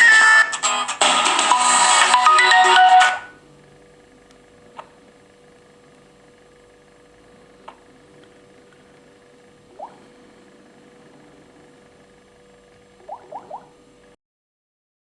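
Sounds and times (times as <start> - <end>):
faint steady hum: 0.0 - 14.2.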